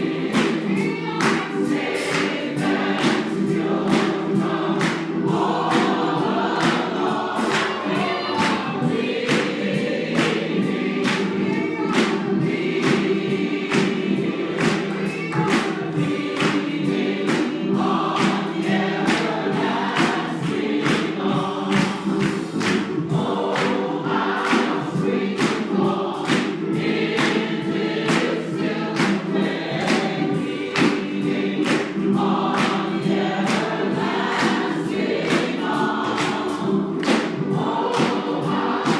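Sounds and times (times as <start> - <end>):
congregation singing gospel song: 0.0 - 38.9
sharp rhythmic beats: 0.0 - 38.9.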